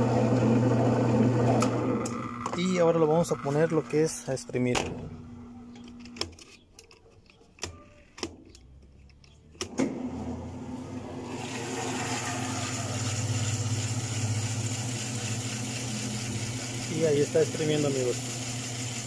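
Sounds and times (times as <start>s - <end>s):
washer motor hum and spin whir: 0.0s - 6.1s, 9.6s - 19.0s.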